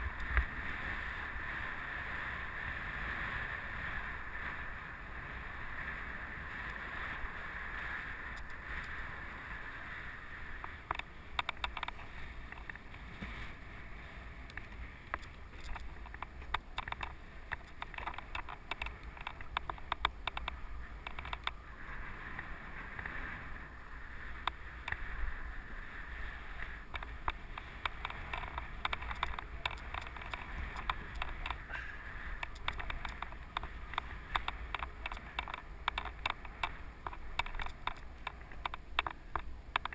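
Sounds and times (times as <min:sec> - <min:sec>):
bike rattling over rough ground: 0:00.0 - 0:39.9
bike tyres rolling on dirt: 0:00.0 - 0:39.9.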